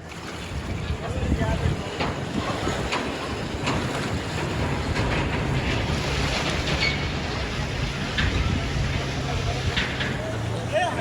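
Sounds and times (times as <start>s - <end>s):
wind buffeting microphone: 0.1s - 11.0s
outdoor rushing noise: 1.4s - 11.0s.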